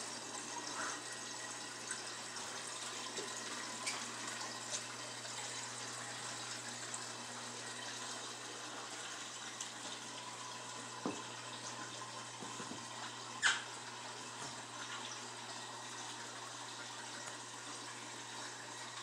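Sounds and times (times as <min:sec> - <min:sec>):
aquarium filter water trickling: 0:00.0 - 0:19.0
low electrical hum: 0:00.0 - 0:19.0.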